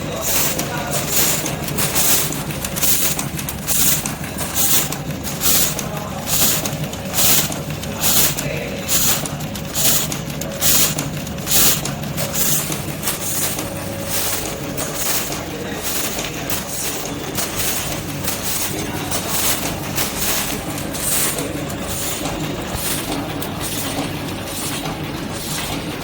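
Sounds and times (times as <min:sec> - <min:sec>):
machine hissing bursts: 0:00.0 - 0:26.0
steady low machine hum: 0:00.0 - 0:26.0.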